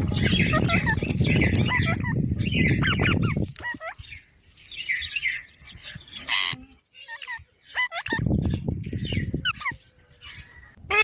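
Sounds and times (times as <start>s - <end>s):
parrots chirping and whistling: 0.0s - 11.0s.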